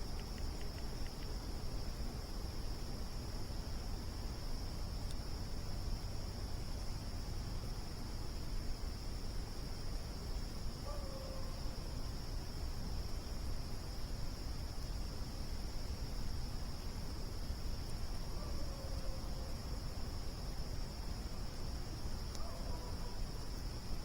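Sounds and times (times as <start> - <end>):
crickets chirping: 0.0 - 24.0
low background noise: 0.0 - 24.0.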